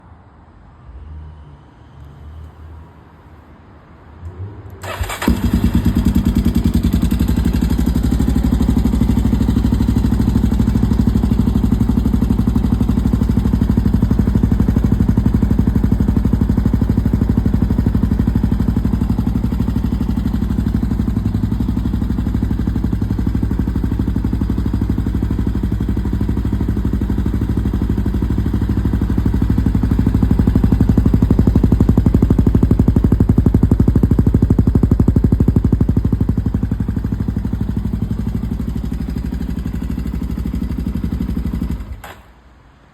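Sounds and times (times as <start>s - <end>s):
motorcycle engine idling: 4.8s - 42.2s.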